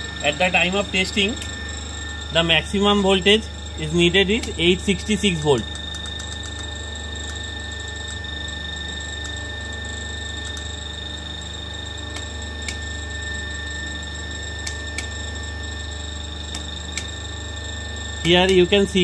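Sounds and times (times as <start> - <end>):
motor-generator hum and whine: 0.0 - 19.0.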